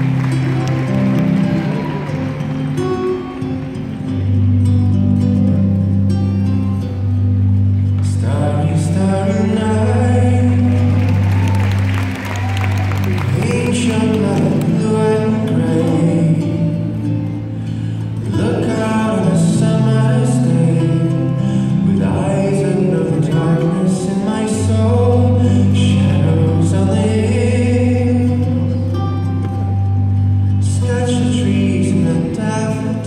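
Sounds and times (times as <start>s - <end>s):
slow song over sound system: 0.0s - 33.0s.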